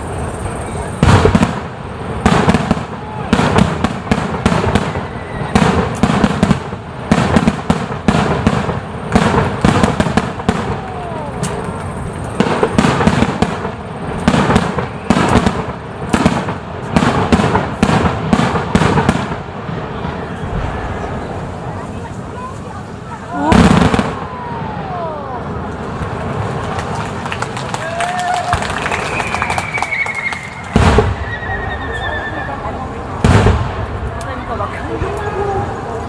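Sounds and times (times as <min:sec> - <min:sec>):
fireworks bursting: 0:00.0 - 0:36.0.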